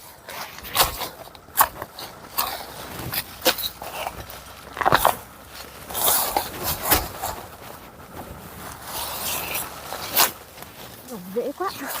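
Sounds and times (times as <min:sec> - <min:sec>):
leaves and stalks rustling: 0:00.0 - 0:12.0
soil scraping and tearing: 0:00.0 - 0:12.0.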